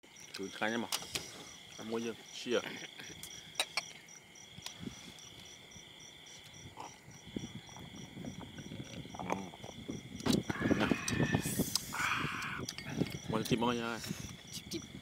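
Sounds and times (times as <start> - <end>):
crickets and insects chirping: 0.0 - 15.0.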